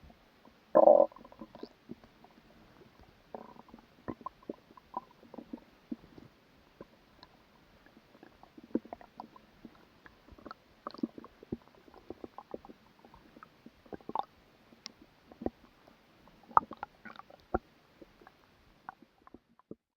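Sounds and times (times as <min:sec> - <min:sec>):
stomach gurgling and rumbling: 0:00.0 - 0:19.9.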